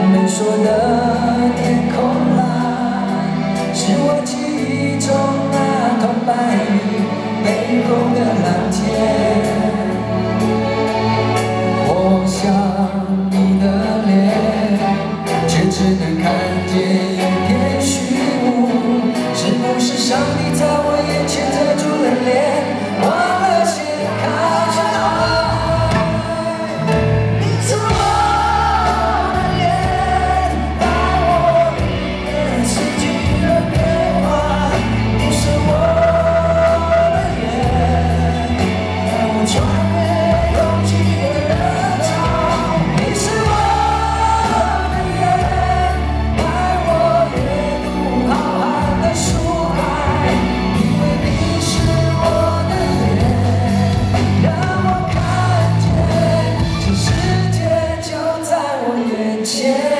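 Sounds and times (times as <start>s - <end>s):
live pop-rock band playing: 0.0s - 59.9s.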